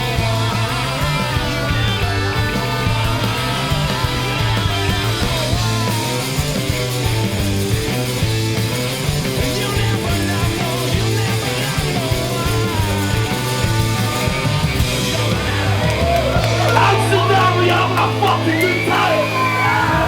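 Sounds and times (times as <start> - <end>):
low bass line: 0.0 - 18.6
loud punk rock music: 0.0 - 20.0.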